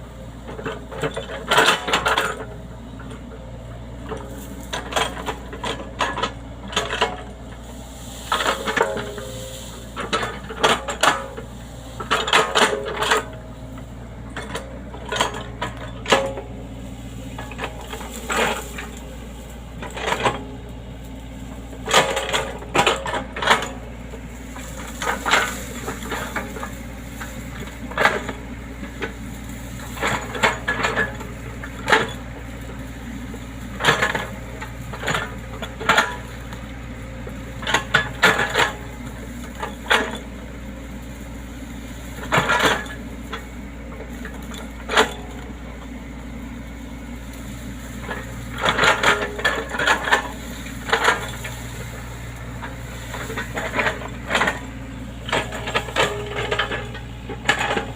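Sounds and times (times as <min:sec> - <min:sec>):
excavator engine running: 0:00.0 - 0:57.9
metallic clanks and knocks: 0:04.0 - 0:07.4, 0:08.2 - 0:20.6, 0:21.4 - 0:40.4, 0:41.9 - 0:45.8, 0:47.4 - 0:57.9.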